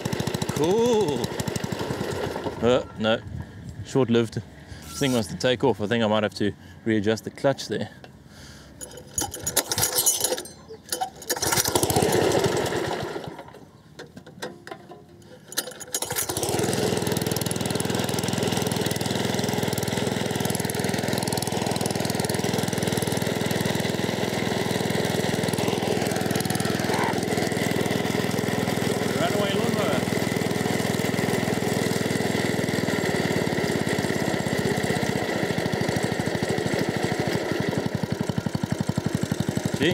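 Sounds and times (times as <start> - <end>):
small lawnmower engine running: 0.0 - 3.0, 8.8 - 39.9.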